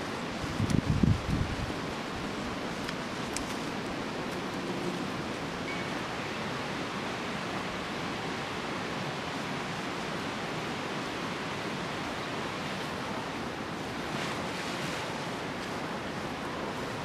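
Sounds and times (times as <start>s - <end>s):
leaves rustling: 0.0s - 17.0s.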